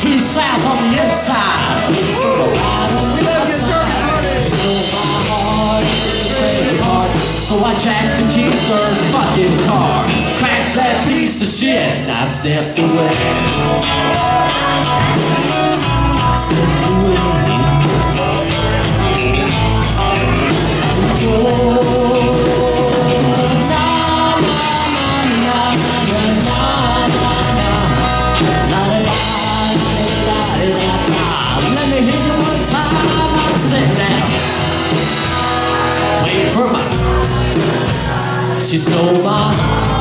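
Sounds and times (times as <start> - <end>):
live rock band playing: 0.0 - 40.0
person singing: 0.0 - 40.0.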